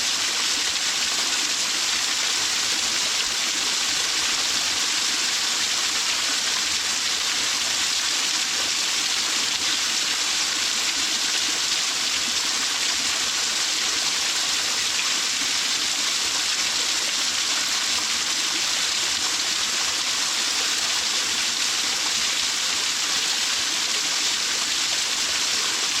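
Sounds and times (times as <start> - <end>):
waterfall pouring and splashing: 0.0 - 26.0.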